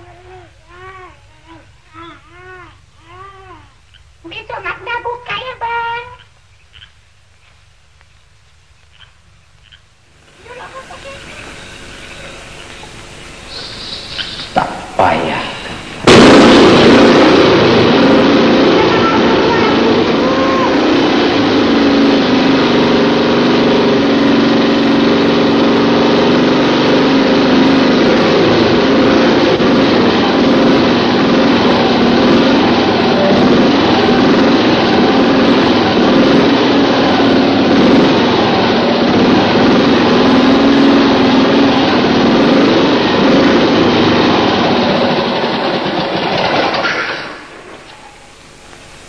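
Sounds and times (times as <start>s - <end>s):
motorcycle engine running: 9.6s - 49.0s.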